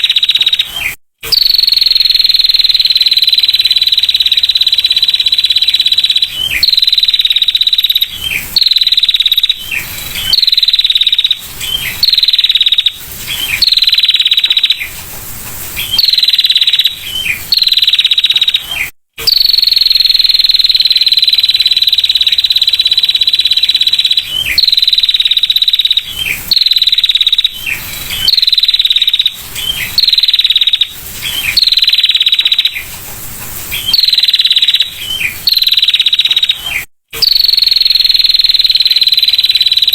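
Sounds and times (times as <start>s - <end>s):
bird rattling trill call: 0.0s - 39.9s.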